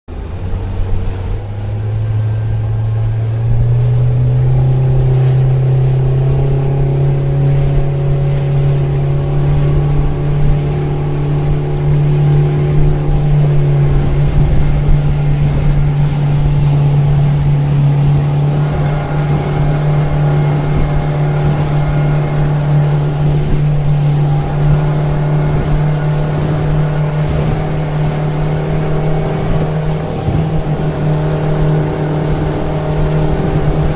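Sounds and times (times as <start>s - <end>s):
motorboat engine running: 0.1s - 33.9s.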